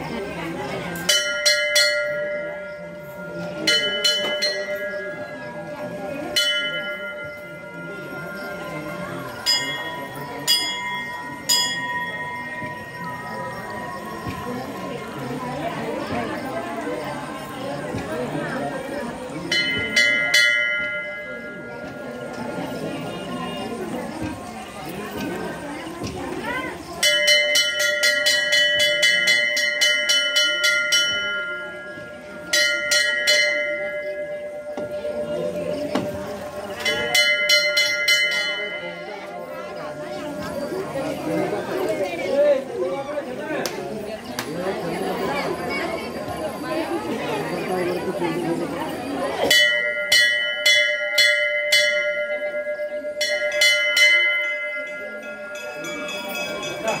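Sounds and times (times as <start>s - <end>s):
temple bell ringing: 0.1s - 57.0s.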